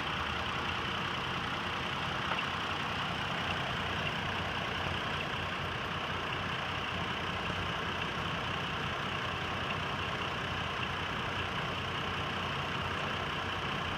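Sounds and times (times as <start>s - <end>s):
truck engine idling: 0.0s - 13.9s.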